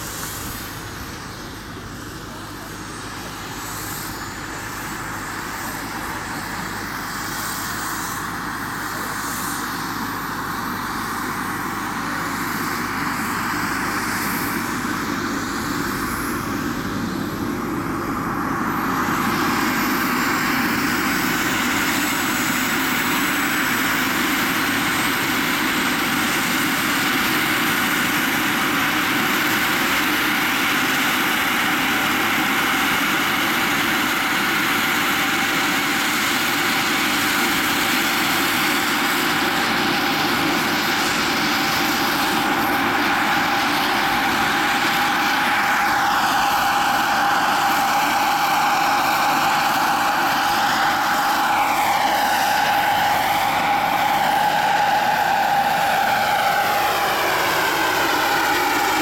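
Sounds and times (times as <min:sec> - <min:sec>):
model turbine whine: 0:00.0 - 0:59.0.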